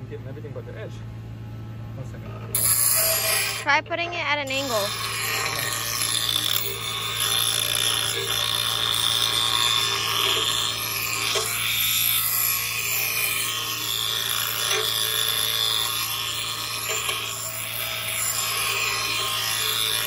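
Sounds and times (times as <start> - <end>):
electric grinder motor hum: 2.6 - 3.7, 4.4 - 20.0
blade rasping on grinding wheel: 2.6 - 20.0.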